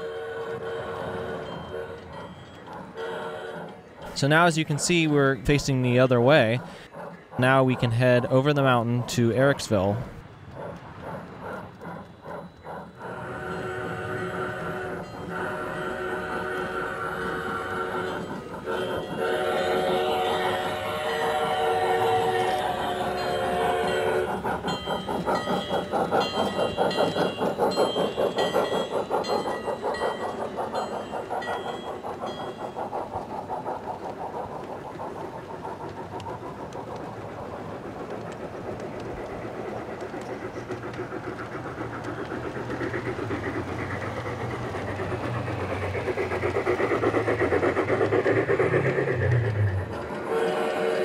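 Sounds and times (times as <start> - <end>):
model train wheels clicking: 0.0 - 51.0.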